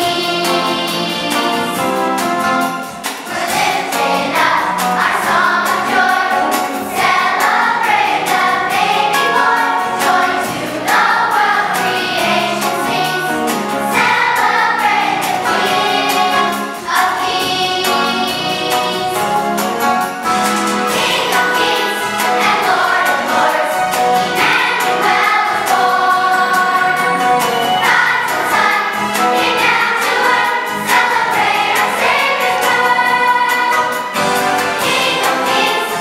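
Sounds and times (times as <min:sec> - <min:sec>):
children's choir singing: 0:00.0 - 0:36.0
instrumental accompaniment with beat: 0:00.0 - 0:36.0.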